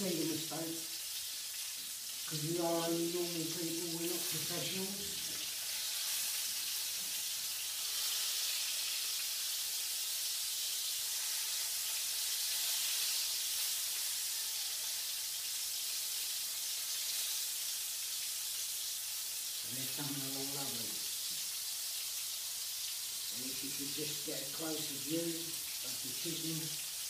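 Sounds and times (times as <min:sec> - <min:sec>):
chicken sizzling in hot oil: 0:00.0 - 0:27.0.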